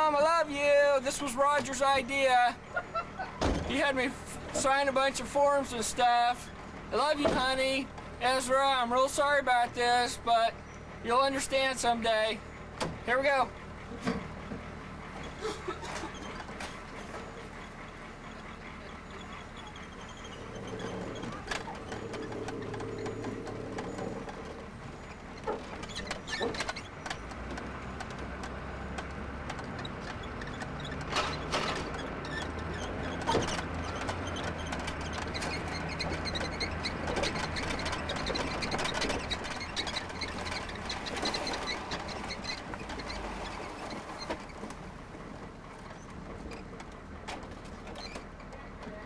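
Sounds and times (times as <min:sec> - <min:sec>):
clicks rattles and squeaks: 0:00.0 - 0:49.0.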